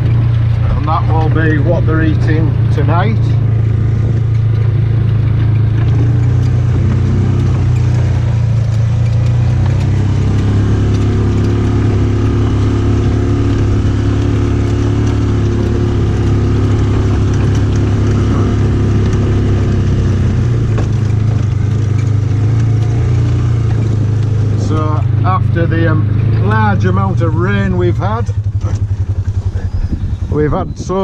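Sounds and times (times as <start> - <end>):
off-road vehicle engine droning: 0.0 - 31.0.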